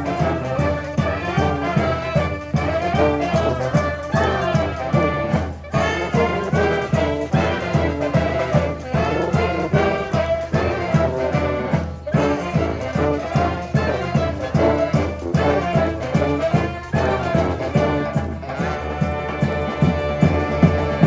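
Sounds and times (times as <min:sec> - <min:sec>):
brass horns: 0:00.0 - 0:21.0
steady drum beat: 0:00.0 - 0:21.0.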